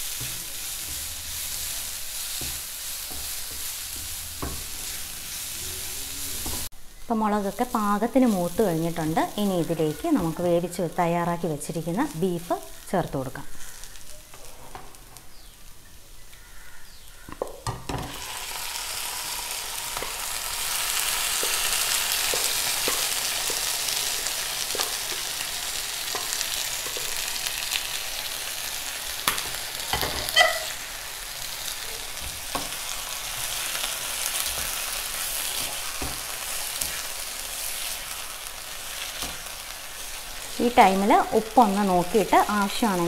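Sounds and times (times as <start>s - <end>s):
pan sizzling: 0.0s - 43.0s.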